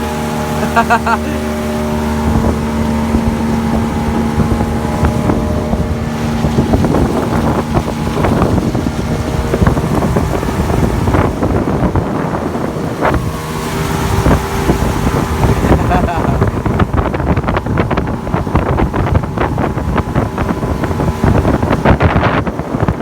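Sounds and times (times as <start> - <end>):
outboard motor running: 0.0 - 23.0
water splashing against hull: 0.0 - 23.0
wind buffeting microphone: 0.0 - 23.0.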